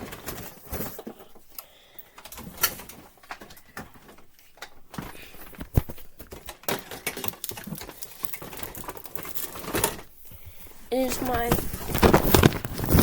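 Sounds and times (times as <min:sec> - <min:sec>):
boxes knocking and scraping: 0:00.0 - 0:01.5, 0:02.3 - 0:13.0.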